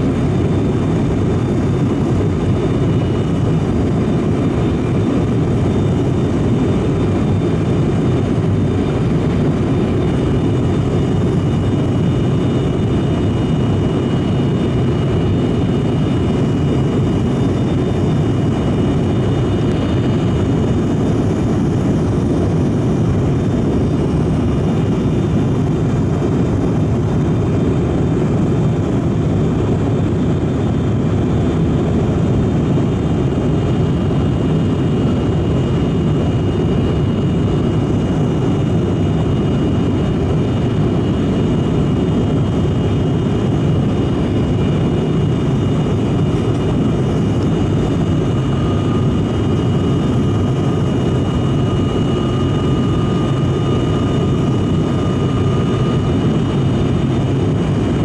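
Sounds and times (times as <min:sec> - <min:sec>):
propeller engine drone: 0:00.0 - 0:58.0.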